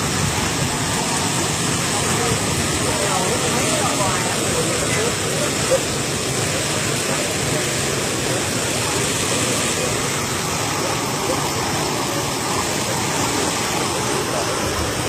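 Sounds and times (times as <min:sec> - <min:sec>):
water jet rushing and splashing: 0:00.0 - 0:15.0.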